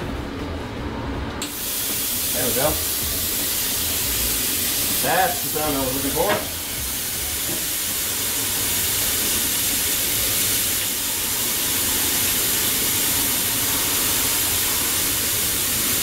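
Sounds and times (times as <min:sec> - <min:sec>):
compressed air hissing from torch: 0:01.4 - 0:16.0.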